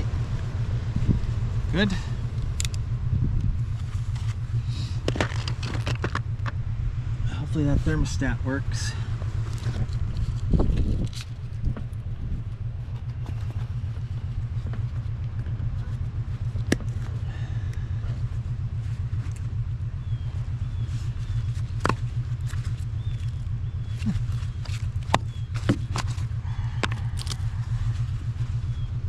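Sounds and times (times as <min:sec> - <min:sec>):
engine running with low rumble: 0:00.0 - 0:29.0.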